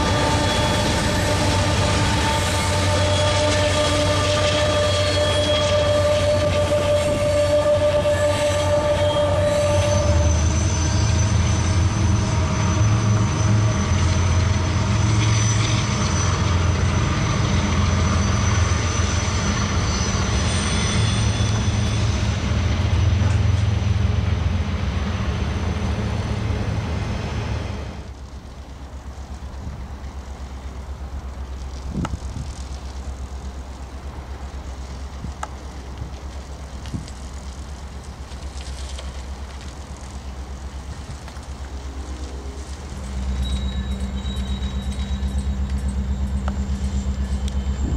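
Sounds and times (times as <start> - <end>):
diesel locomotive engine drone: 0.0 - 47.9
distant train rumble: 0.0 - 47.9
train wheel and rail noise: 0.0 - 47.9.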